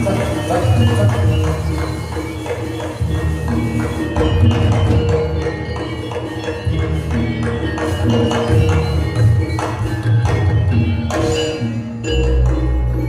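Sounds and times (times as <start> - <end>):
ringing metal percussion: 0.0 - 13.0.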